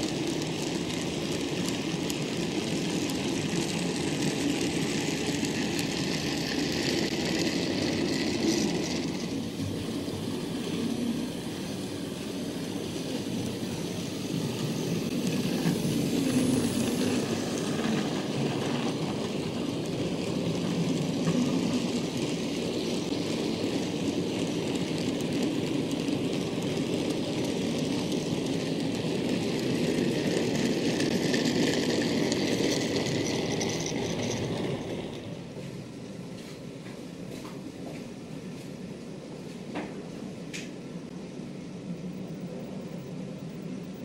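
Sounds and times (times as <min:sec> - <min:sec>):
model train rumbling past: 0:00.0 - 0:36.0.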